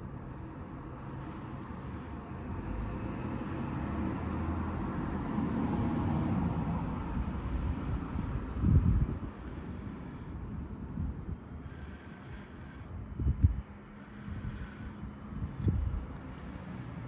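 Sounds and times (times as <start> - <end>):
wind rumbling on microphone: 2.5 - 17.0.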